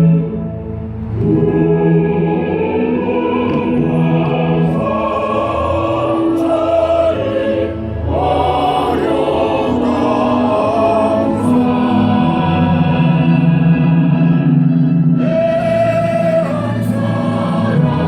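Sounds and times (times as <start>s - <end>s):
musical accompaniment: 0.0s - 18.0s
choir singing held notes: 1.1s - 14.4s, 15.1s - 18.0s.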